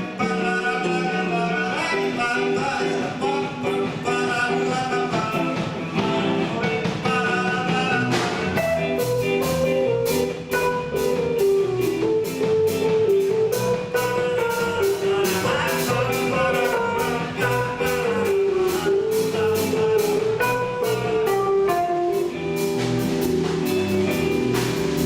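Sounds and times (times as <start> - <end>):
instrumental rock music: 0.0 - 25.0.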